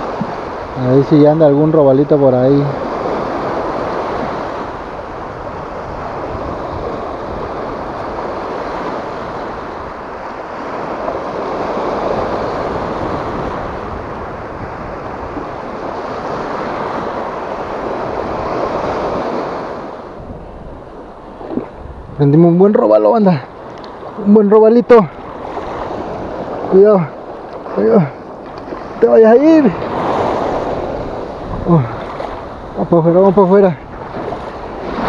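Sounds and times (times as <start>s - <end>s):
waves breaking on rocks: 0.0s - 35.0s.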